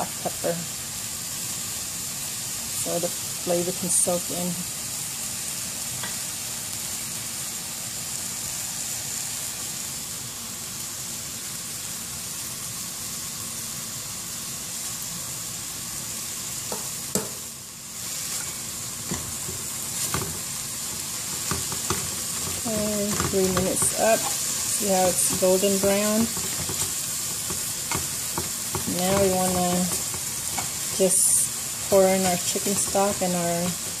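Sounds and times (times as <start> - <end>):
meat sizzling in oil: 0.0 - 34.0.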